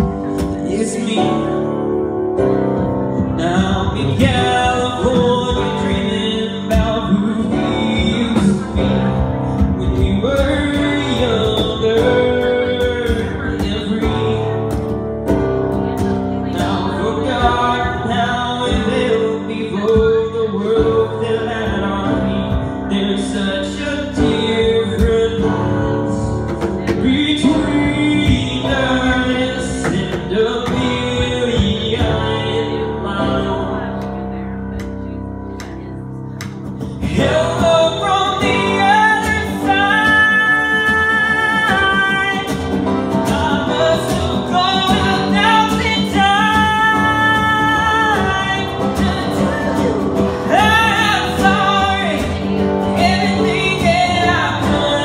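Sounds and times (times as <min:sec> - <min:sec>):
man singing into microphone: 0:00.0 - 0:34.7, 0:36.6 - 0:55.0
keyboard and guitar music: 0:00.0 - 0:55.0.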